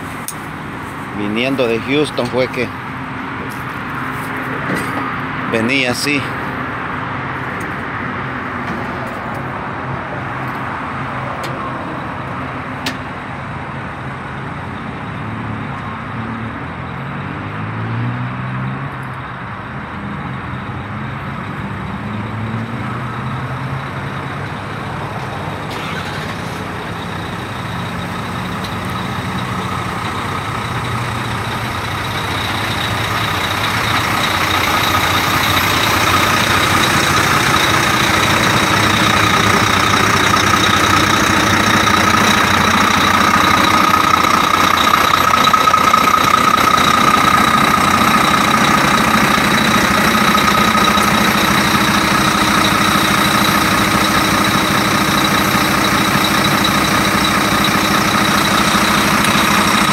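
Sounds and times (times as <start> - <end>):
diesel truck engine idling: 0.0 - 17.1, 19.3 - 59.9.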